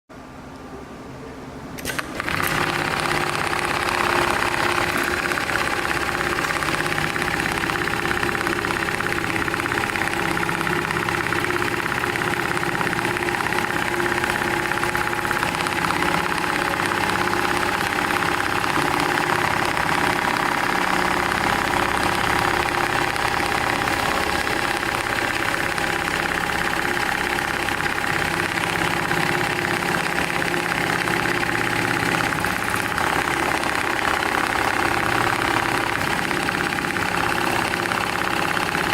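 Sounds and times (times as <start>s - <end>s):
industrial sewing machine running: 1.8s - 38.9s.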